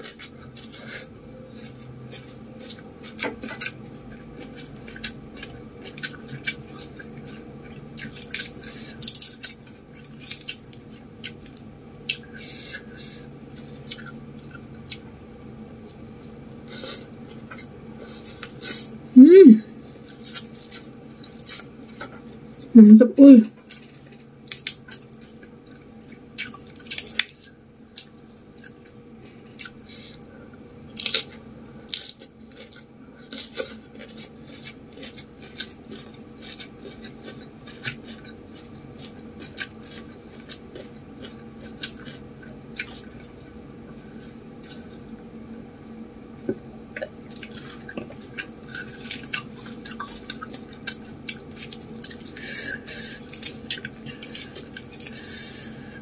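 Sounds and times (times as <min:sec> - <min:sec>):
chewing food: 0:00.0 - 0:15.1, 0:19.9 - 0:22.7, 0:23.5 - 0:45.6, 0:46.5 - 0:56.0
faint steady hum: 0:00.0 - 0:56.0.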